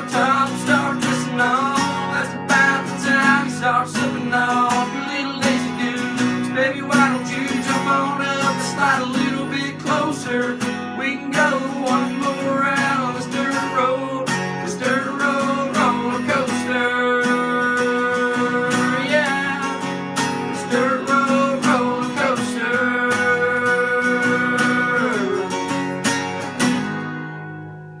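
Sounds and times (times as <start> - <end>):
acoustic country song: 0.0 - 28.0.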